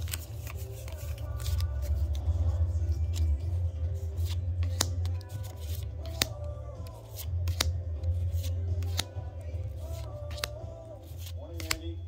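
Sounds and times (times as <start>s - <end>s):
background music with low bass: 0.0s - 12.0s
trading cards being handled: 0.0s - 12.0s.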